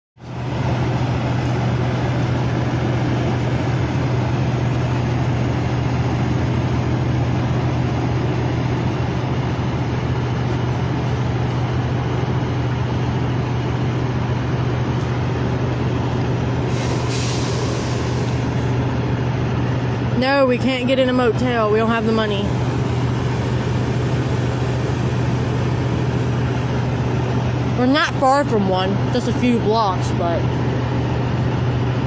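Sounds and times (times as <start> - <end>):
truck engines idling: 0.2 - 32.0.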